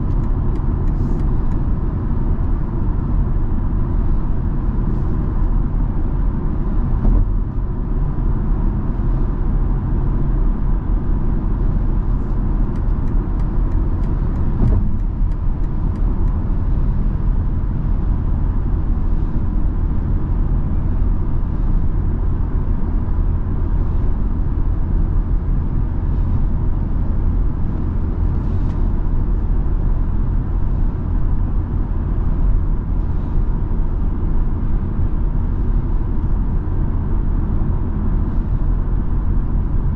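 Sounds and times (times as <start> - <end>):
car cabin road drone: 0.0 - 39.9.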